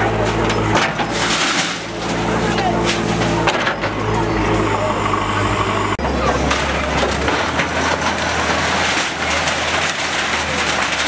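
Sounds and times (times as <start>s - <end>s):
diesel engine humming: 0.0s - 11.0s
masonry crackling and crunching: 0.0s - 11.0s.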